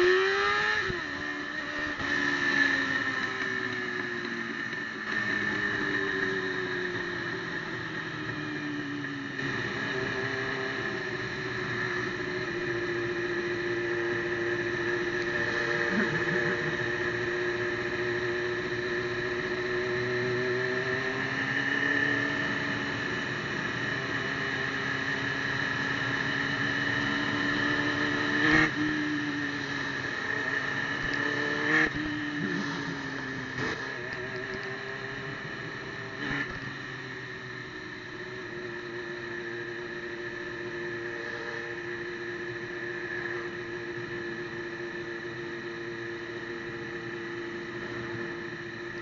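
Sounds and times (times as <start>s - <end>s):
motorcycle engine revving: 0.0s - 49.0s
steady high whine: 0.0s - 49.0s.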